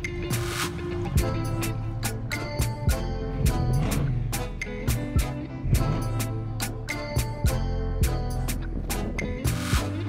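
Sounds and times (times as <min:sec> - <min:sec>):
background music with drum beat: 0:00.0 - 0:10.0.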